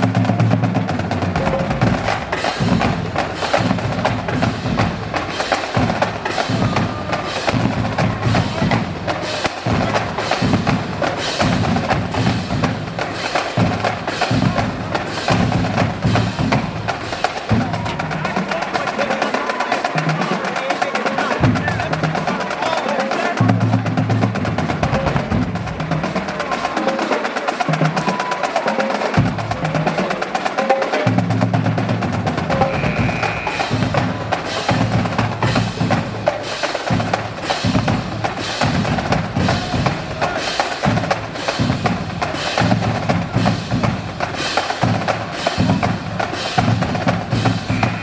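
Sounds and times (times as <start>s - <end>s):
snare drum rolls: 0.0s - 48.0s.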